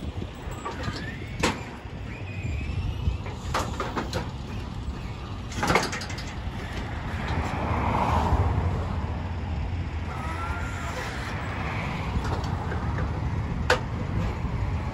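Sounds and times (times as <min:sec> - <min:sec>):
traffic noise: 0:00.0 - 0:14.9
truck idling: 0:00.0 - 0:14.9.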